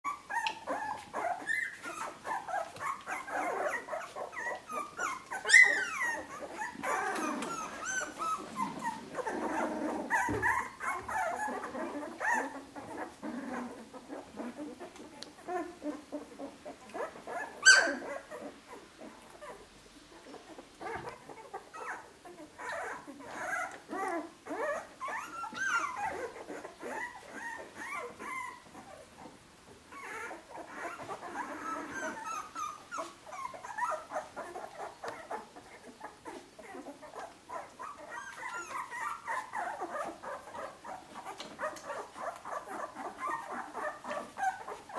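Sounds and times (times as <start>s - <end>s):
puppies whimpering and squeaking: 0.0s - 44.9s
puppy yelping: 0.1s - 19.6s, 20.2s - 44.9s.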